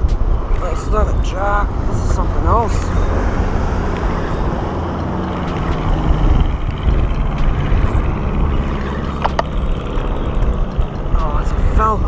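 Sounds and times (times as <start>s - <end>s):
ocean surf: 0.0s - 12.0s
wind rumbling on microphone: 0.0s - 12.0s.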